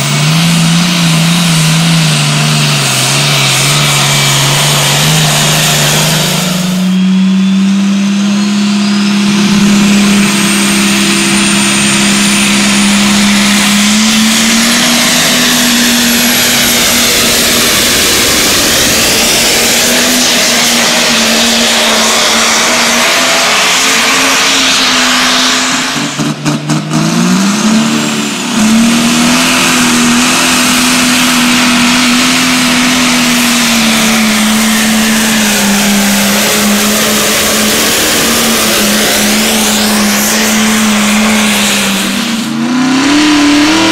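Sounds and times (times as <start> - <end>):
diesel tractor engines roaring: 0.0 - 43.9
high engine whine: 0.0 - 43.9.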